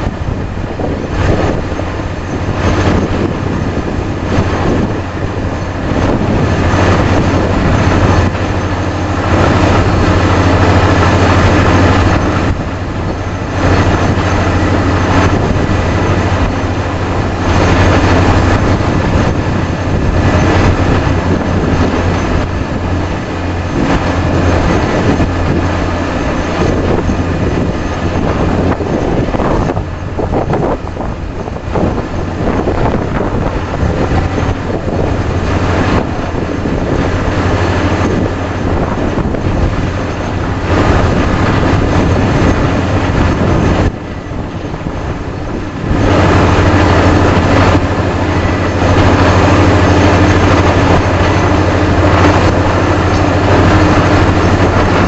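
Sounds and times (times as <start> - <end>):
compressor and drill rig running: 0.0 - 55.0
constant low hum: 0.0 - 55.0.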